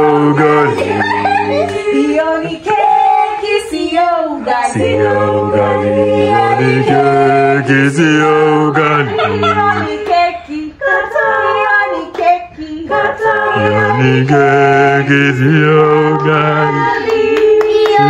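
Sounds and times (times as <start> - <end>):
group singing in harmony: 0.0 - 18.0.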